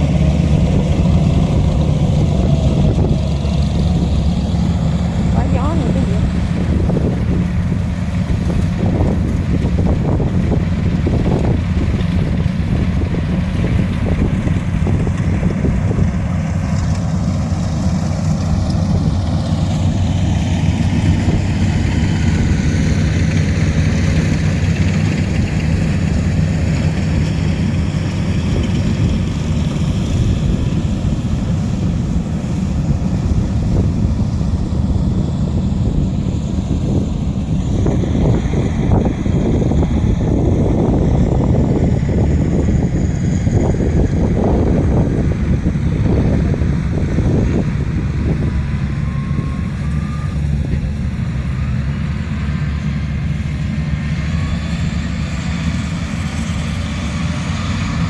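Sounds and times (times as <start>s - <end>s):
engine running: 0.0s - 58.0s
wind buffeting microphone: 0.0s - 58.0s.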